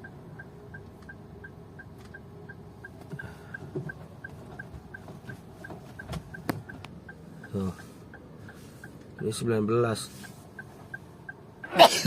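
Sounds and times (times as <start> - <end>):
car cabin hum: 0.0 - 12.0
car warning beeps: 0.0 - 12.0.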